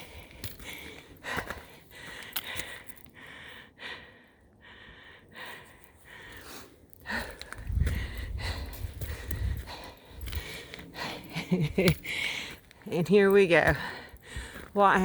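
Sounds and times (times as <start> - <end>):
person breathing hard: 0.0 - 12.7, 13.8 - 14.8.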